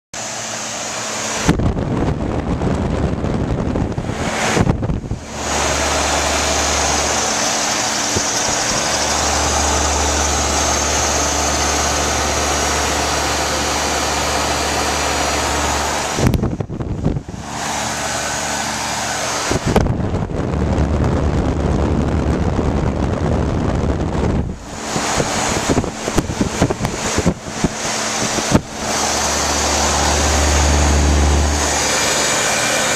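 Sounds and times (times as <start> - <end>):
heat pump fan running: 0.2 - 32.9.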